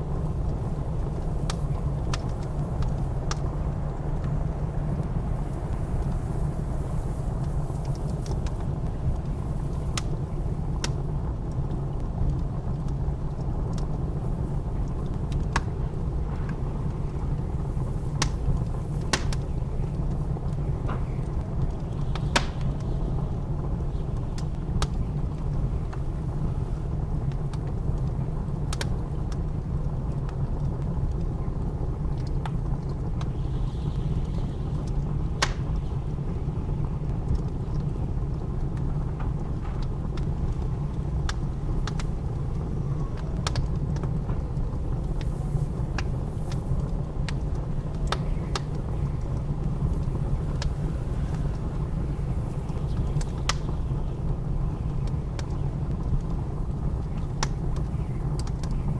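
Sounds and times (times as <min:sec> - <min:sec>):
blizzard wind rumble: 0:00.0 - 0:58.9
wood fire crackling and popping: 0:00.0 - 0:58.9.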